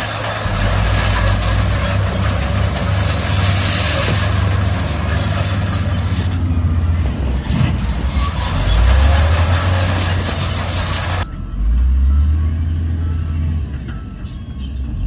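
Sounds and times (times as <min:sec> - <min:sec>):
deep diesel engine drone: 0:00.0 - 0:15.0.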